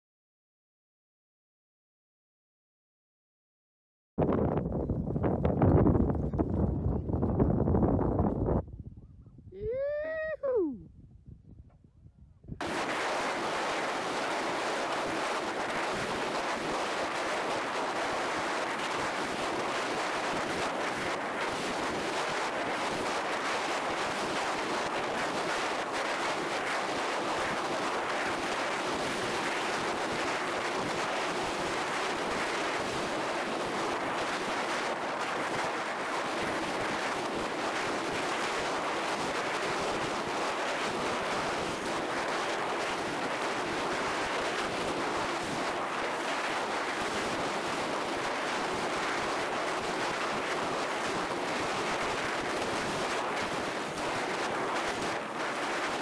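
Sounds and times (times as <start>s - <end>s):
wind rushing on microphone: 4.2s - 56.0s.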